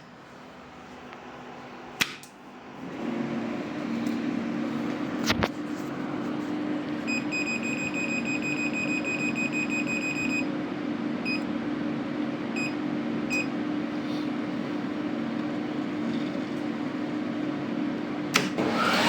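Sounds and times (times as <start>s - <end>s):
low electrical hum: 0.0s - 18.4s.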